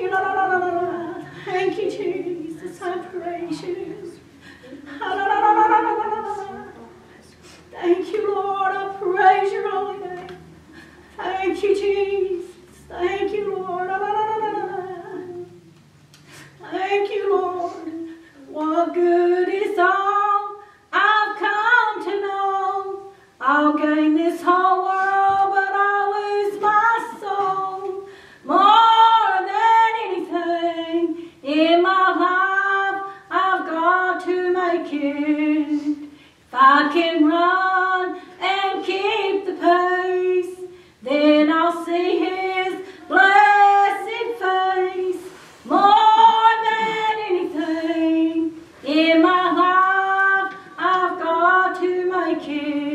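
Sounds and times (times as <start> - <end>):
woman singing a slow song: 0.0 - 7.1, 7.7 - 15.7, 16.5 - 52.9.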